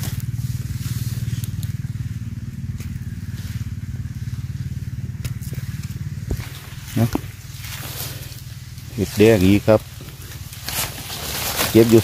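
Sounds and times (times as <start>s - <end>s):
faint clicks and rustles: 0.0s - 12.0s
low pulsing engine-like drone: 0.0s - 12.0s.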